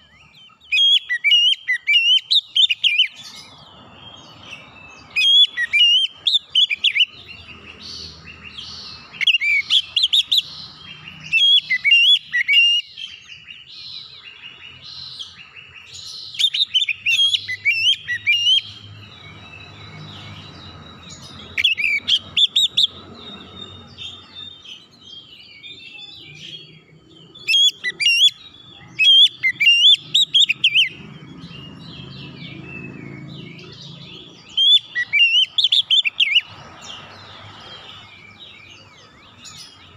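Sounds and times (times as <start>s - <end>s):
bird whistling and screeching: 0.0s - 3.5s, 4.5s - 15.3s, 15.9s - 18.9s, 19.6s - 36.5s.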